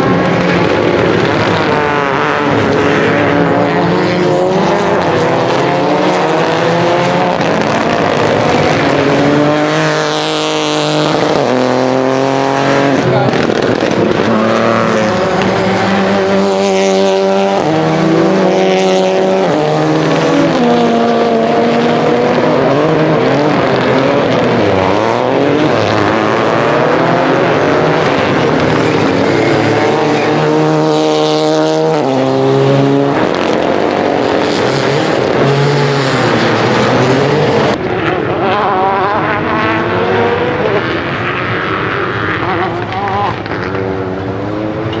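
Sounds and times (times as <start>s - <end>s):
rally car engine accelerating: 0.0s - 45.0s.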